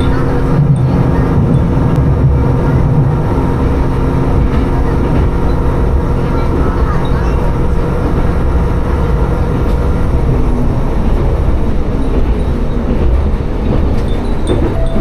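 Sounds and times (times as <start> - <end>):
railcar engine and wheels rumbling: 0.0 - 15.0.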